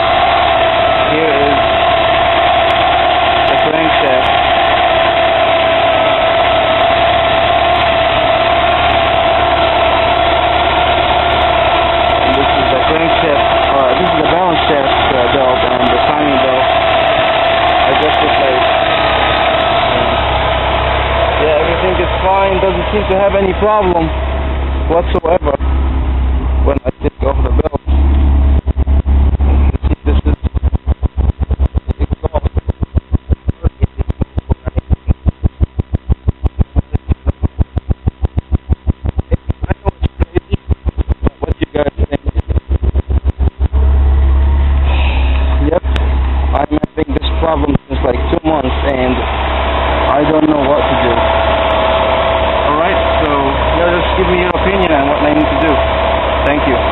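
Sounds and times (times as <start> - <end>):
car engine idling: 0.0 - 56.9
steady engine whine: 0.0 - 56.9.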